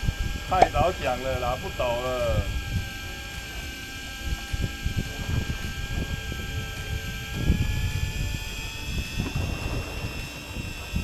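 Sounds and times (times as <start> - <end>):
boat engine droning: 0.0 - 11.0
high whining tones: 0.0 - 11.0
wind buffeting microphone: 0.0 - 11.0.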